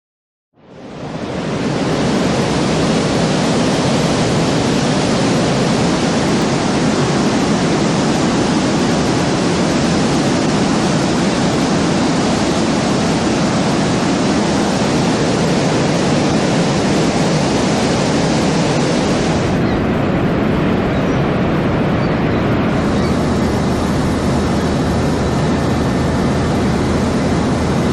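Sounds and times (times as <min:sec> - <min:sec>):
waterfall rushing: 0:00.9 - 0:27.9.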